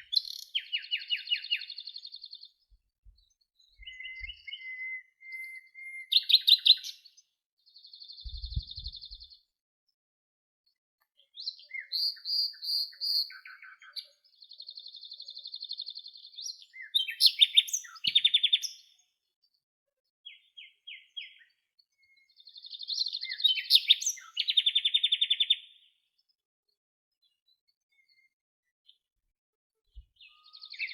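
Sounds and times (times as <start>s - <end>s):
songbirds chirping and trilling: 0.0s - 10.0s, 10.7s - 30.9s.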